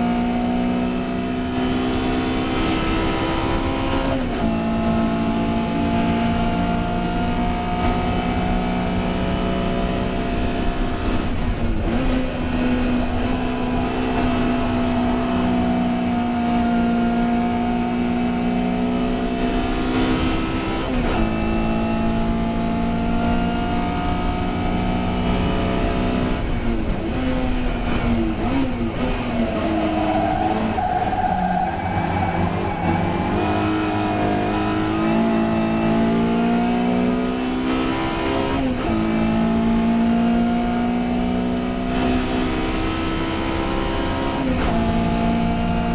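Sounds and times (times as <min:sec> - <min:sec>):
race car engine at high revs: 0:00.0 - 0:45.9.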